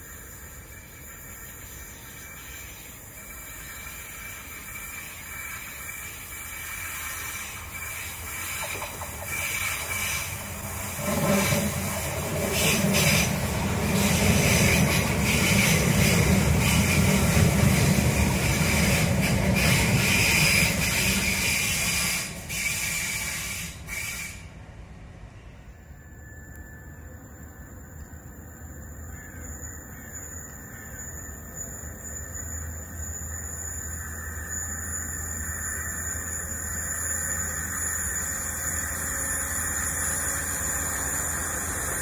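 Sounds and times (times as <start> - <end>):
passenger train passing: 0.0 - 42.0.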